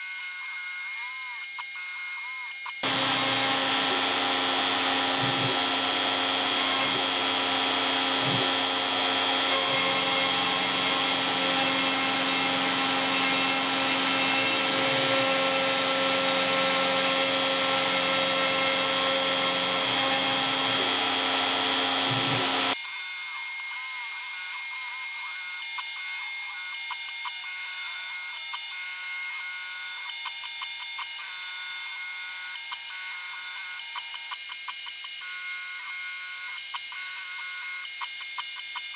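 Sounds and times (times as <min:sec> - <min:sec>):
cnc router whining while carving: 0:00.0 - 0:38.9.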